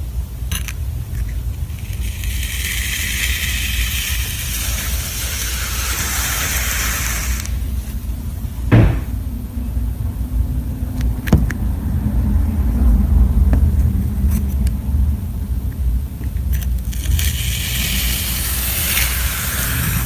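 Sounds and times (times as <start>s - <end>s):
steady low rumble: 0.0s - 17.2s.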